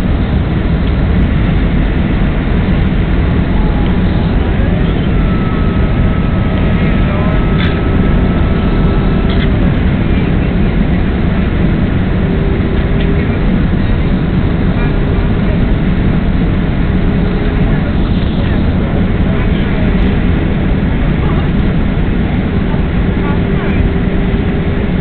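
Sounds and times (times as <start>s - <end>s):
airplane cabin roar: 0.0s - 25.0s
faint high whine: 0.0s - 25.0s.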